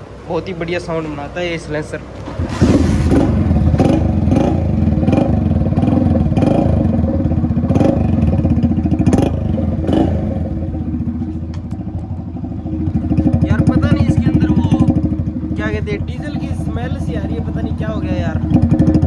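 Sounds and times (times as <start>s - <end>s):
motorcycle engine running loud: 0.0s - 19.0s.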